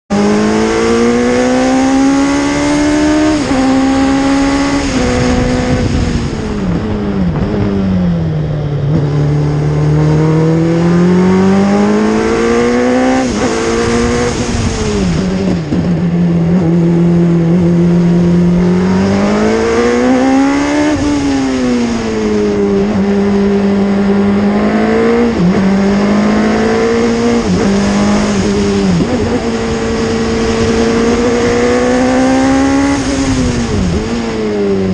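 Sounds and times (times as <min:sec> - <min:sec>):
race car engine revving: 0:00.1 - 0:34.9
wind noise: 0:00.1 - 0:34.9.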